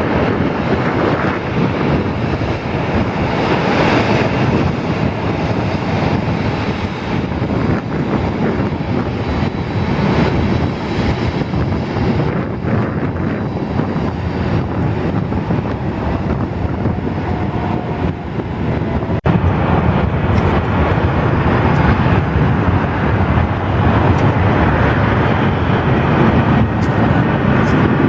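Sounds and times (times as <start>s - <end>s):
jet engines running: 0.0s - 28.0s
wind on microphone: 0.0s - 28.0s.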